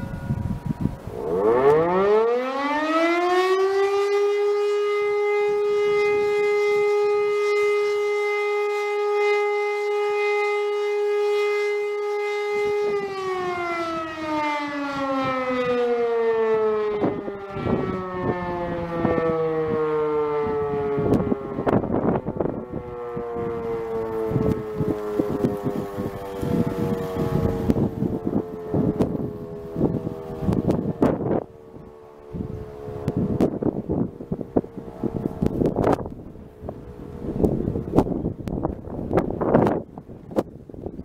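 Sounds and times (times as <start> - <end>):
electric motor siren wailing: 0.0 - 41.0.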